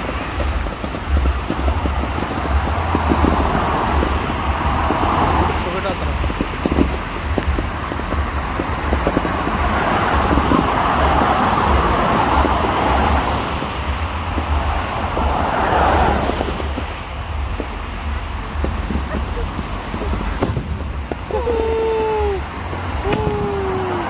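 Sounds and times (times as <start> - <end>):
steady low traffic rumble: 0.0 - 24.0
vehicles passing: 0.0 - 24.0.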